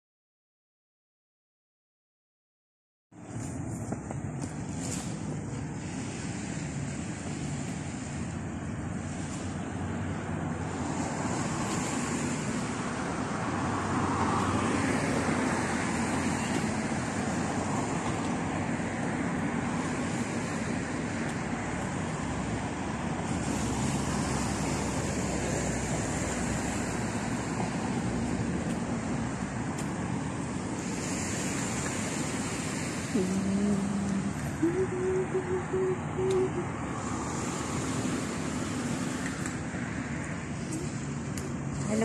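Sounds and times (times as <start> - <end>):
road traffic passing: 3.1 - 42.0.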